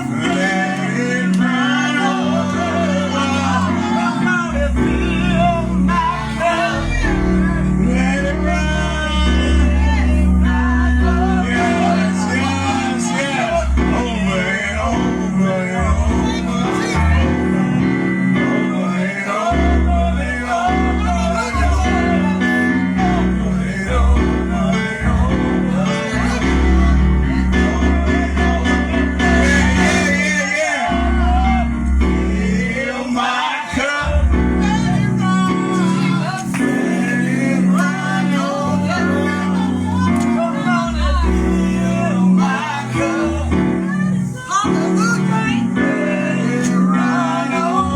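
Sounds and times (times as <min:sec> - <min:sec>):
bass and guitar: 0:00.0 - 0:32.9, 0:33.8 - 0:47.9
person singing: 0:00.0 - 0:47.9.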